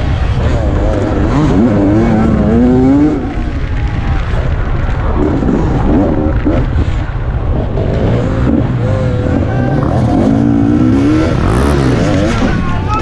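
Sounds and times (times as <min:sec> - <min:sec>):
motorcycle engine revving: 0:00.0 - 0:13.0
wind noise on microphone: 0:00.0 - 0:13.0.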